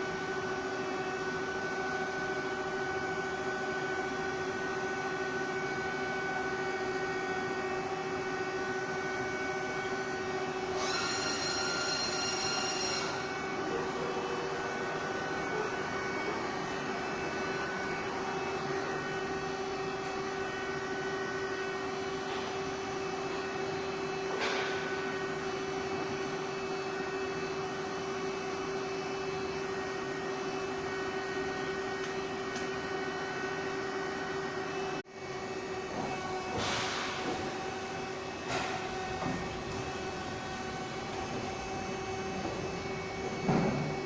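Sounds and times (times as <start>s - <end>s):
machine mechanical hum: 0.0s - 44.0s.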